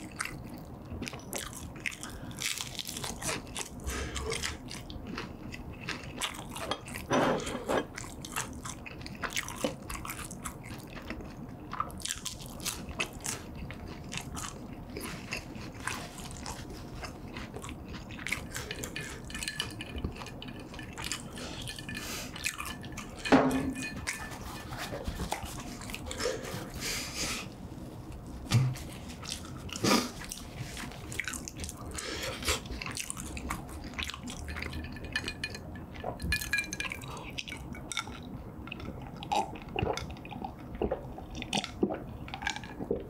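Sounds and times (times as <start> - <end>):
wet chewing of food: 0.0 - 43.0.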